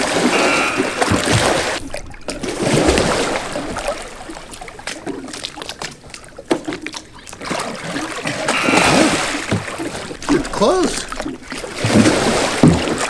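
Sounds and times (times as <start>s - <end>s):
kayak capsizing splash: 0.0s - 13.0s
water sloshing and dripping: 0.0s - 13.0s.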